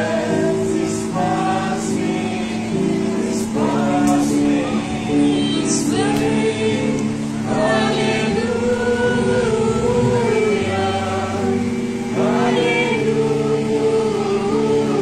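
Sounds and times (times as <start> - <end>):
choir singing a hymn: 0.0 - 15.0
steady low tone: 0.0 - 15.0.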